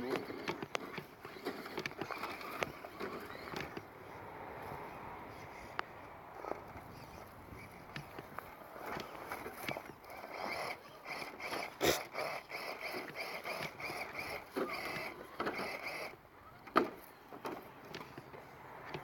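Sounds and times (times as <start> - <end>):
rc truck motor whining: 0.0 - 19.0
truck knocking against rock: 0.1 - 3.9, 6.3 - 19.0.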